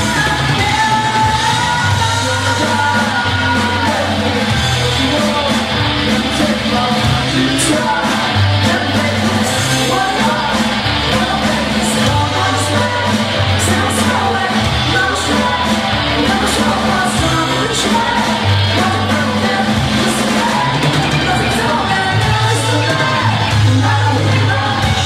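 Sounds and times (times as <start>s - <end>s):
bass guitar: 0.0s - 25.0s
drums: 0.0s - 25.0s
electric guitar: 0.0s - 25.0s
singer singing: 0.0s - 25.0s.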